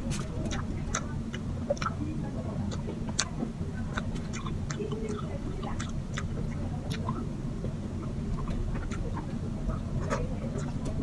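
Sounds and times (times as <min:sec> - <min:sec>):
chewing and lip-smacking: 0:00.0 - 0:11.0
steady low hum: 0:00.0 - 0:11.0.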